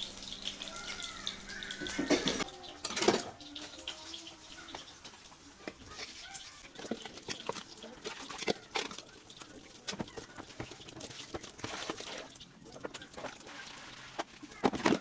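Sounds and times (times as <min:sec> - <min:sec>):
utensils clicking and knocking: 0:00.0 - 0:13.1.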